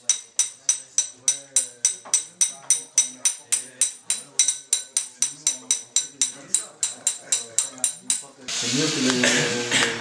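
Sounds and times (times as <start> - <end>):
faint voices: 0.0 - 10.0.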